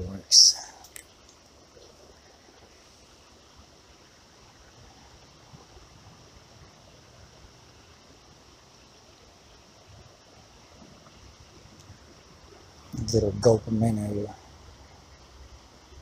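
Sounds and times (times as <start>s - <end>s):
flowing creek water hiss: 0.0s - 16.0s.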